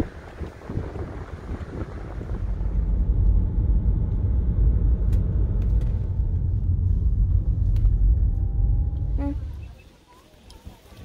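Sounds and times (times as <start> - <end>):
car driving rumble: 0.0 - 10.6.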